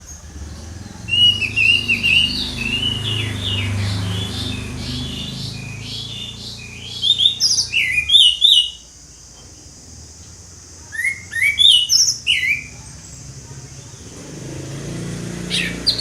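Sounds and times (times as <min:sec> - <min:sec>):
thrush singing: 0:00.0 - 0:08.9, 0:11.0 - 0:16.0.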